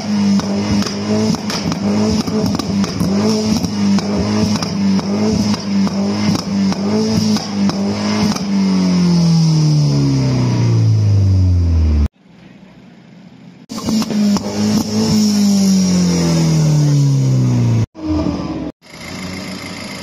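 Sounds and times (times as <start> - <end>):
car engine revving unevenly: 0.0 - 18.8.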